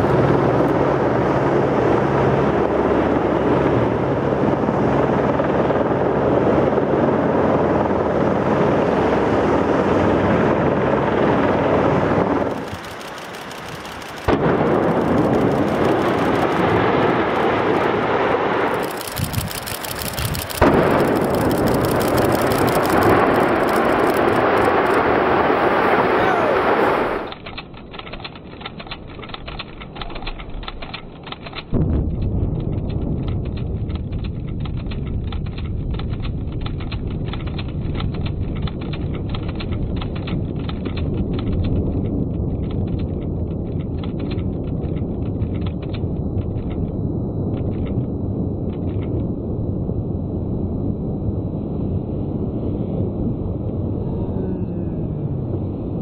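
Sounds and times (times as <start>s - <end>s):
deep rumble: 0.0s - 56.0s.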